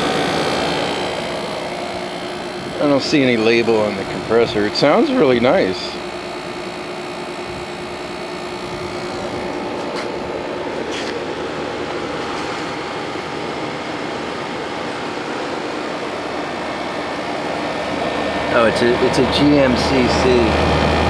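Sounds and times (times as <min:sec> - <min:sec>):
air conditioner running: 0:00.0 - 0:21.0.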